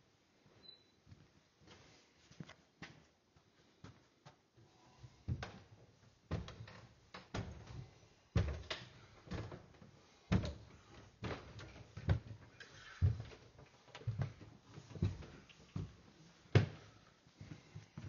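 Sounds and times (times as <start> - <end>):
footsteps on carpeted stairs: 1.1 - 18.0.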